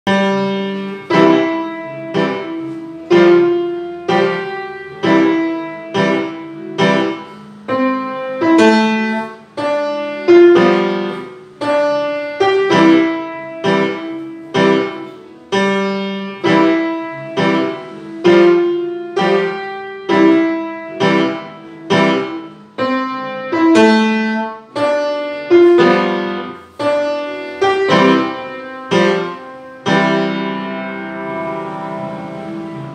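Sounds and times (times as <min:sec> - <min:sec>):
grand piano chords: 0:00.0 - 0:32.9.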